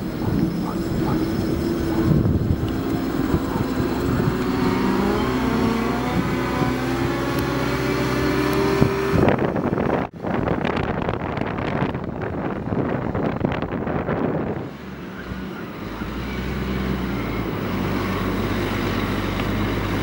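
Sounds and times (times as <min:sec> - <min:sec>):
loader diesel engine under load: 0:00.0 - 0:10.4, 0:11.1 - 0:20.0.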